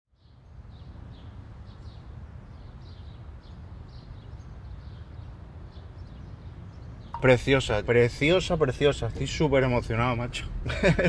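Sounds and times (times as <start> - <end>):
small birds chirping: 0.1 - 11.0
low outdoor rumble: 1.0 - 11.0.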